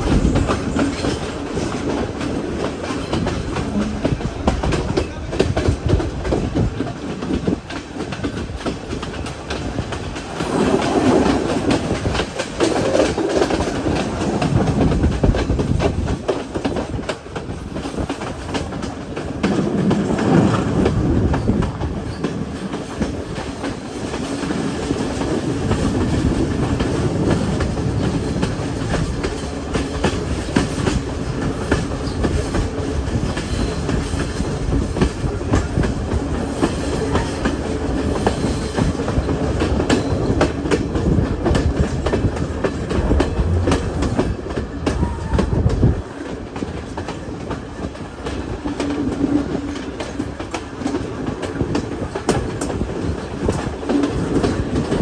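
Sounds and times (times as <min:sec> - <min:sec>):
train wheels clattering over rail joints: 0:00.0 - 0:55.0.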